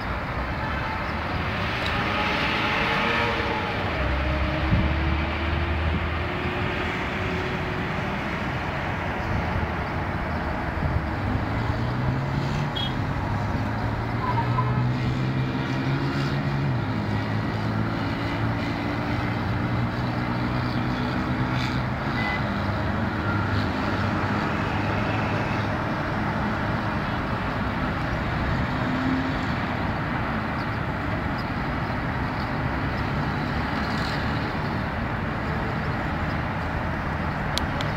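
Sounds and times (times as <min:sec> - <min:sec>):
heavy vehicle engine hum: 0:00.0 - 0:37.9
road traffic noise: 0:00.0 - 0:37.9.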